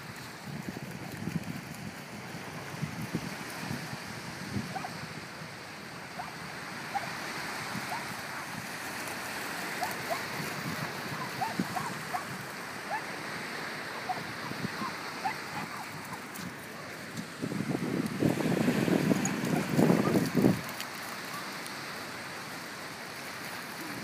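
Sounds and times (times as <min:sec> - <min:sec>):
surf and lapping water: 0:00.0 - 0:24.0.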